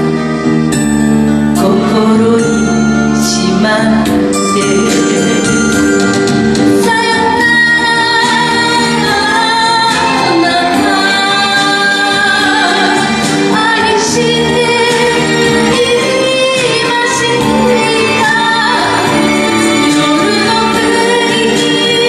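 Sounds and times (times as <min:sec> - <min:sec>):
instrumental accompaniment: 0:00.0 - 0:22.0
woman singing into microphone: 0:01.6 - 0:06.0, 0:06.7 - 0:22.0.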